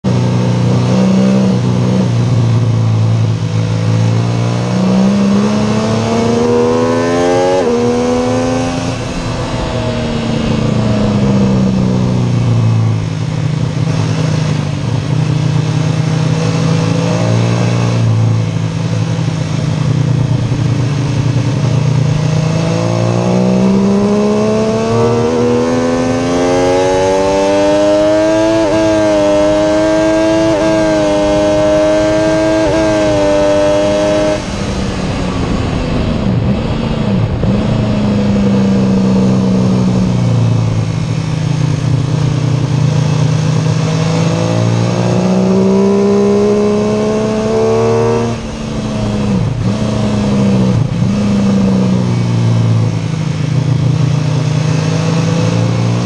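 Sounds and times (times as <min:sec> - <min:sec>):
motorcycle engine at full throttle: 0:00.0 - 0:56.0
wind rush: 0:04.8 - 0:15.6, 0:17.9 - 0:43.4, 0:44.1 - 0:54.3.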